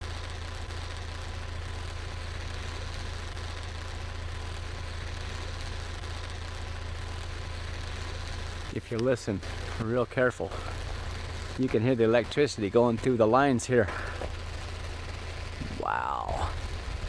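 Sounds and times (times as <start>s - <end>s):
power lines electrical hum: 0.0s - 17.0s
power lines hissing crackle: 0.0s - 17.0s.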